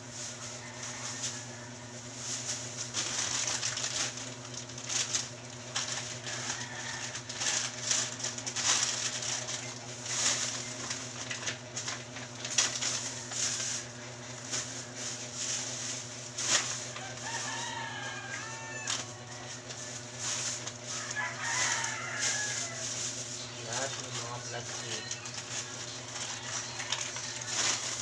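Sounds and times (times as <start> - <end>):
plastic bags rustling: 2.3 - 28.0.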